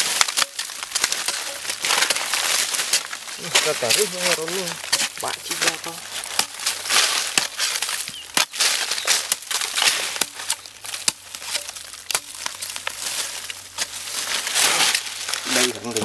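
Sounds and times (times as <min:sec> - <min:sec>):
digging tool striking hard earth: 0:00.0 - 0:15.8
soil and dry leaves crackling: 0:00.0 - 0:16.0.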